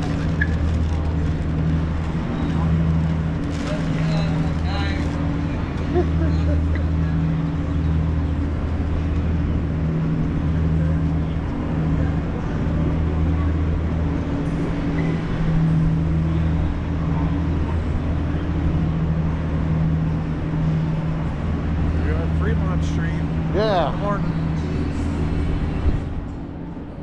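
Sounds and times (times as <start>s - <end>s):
low mechanical hum: 0.0s - 27.0s
street noise: 0.0s - 27.0s.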